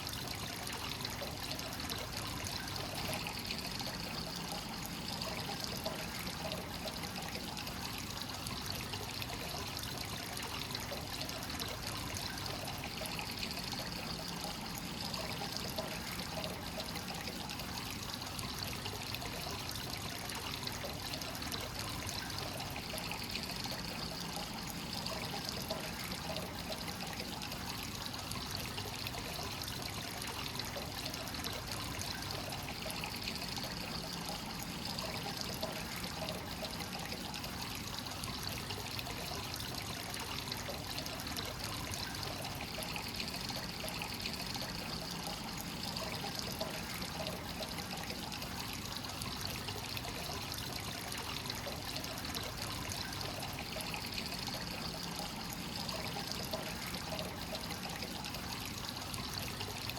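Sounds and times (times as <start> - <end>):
water pouring into a bath: 0.0 - 59.9.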